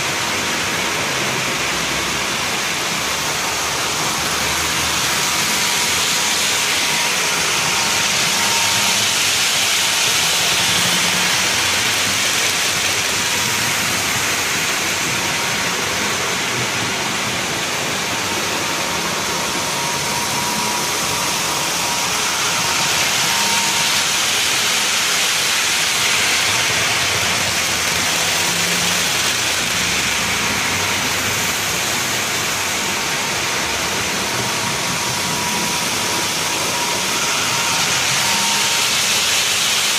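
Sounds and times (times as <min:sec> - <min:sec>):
model trains whirring on track: 0:00.0 - 0:39.9.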